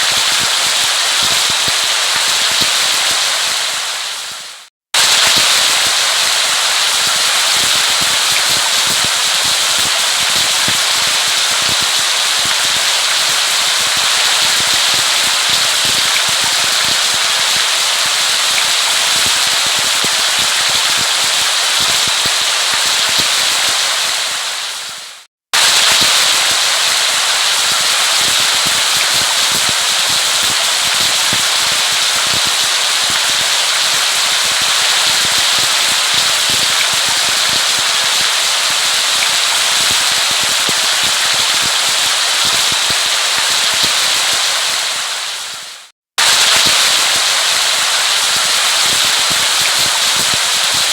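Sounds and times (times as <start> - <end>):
heavy rain patter: 0.0 - 50.9.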